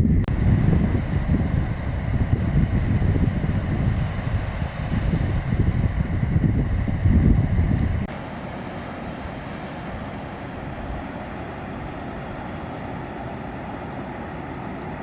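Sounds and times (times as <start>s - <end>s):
steady rushing noise: 0.0s - 15.0s
wind buffeting the microphone: 0.0s - 15.0s.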